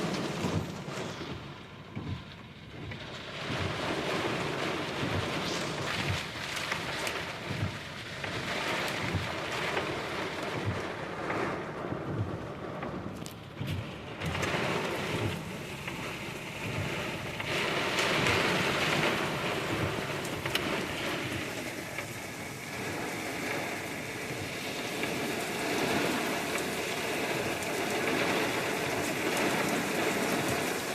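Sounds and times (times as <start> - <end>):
heavy rain on car roof: 0.0 - 30.9.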